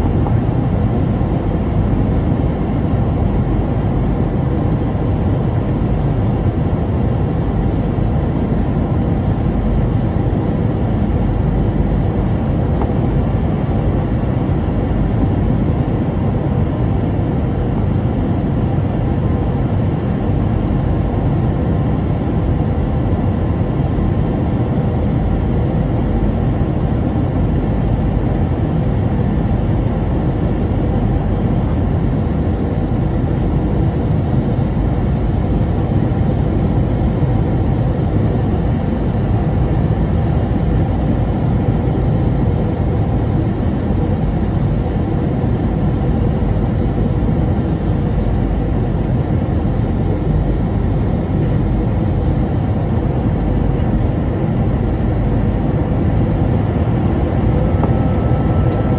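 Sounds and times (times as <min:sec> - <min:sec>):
airliner cabin rumble: 0:00.0 - 0:58.9
faint steady hum: 0:00.0 - 0:58.9.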